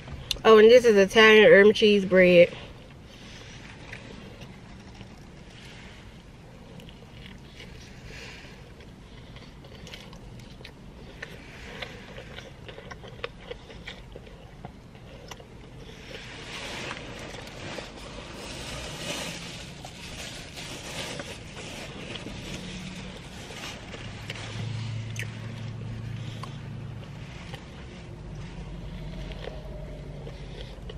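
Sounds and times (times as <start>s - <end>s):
low hum: 0.0s - 30.9s
low steady rumble: 0.0s - 30.9s
biting and chewing bread: 2.7s - 30.9s.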